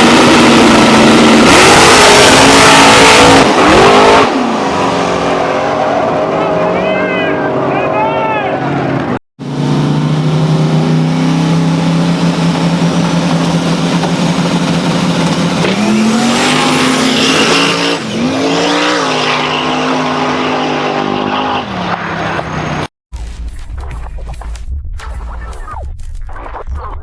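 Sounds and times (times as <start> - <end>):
race car engine revving: 0.0 - 7.9, 8.6 - 22.9.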